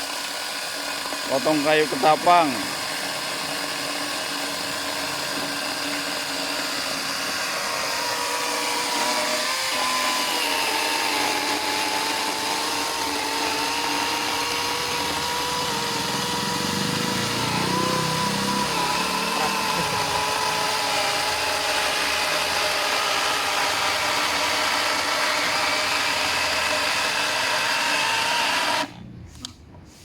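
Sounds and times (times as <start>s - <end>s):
electric chainsaw cutting wood: 0.0s - 29.5s.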